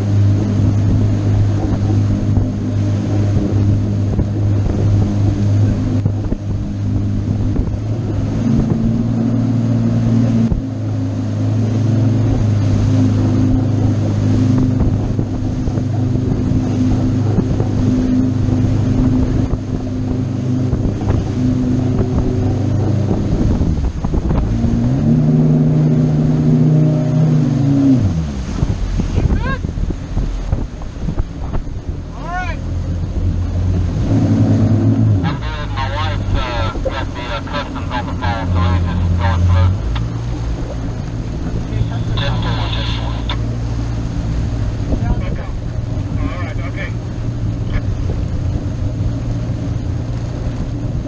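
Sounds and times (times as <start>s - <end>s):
motorboat engine running: 0.0s - 51.0s
wind on microphone: 0.0s - 51.0s.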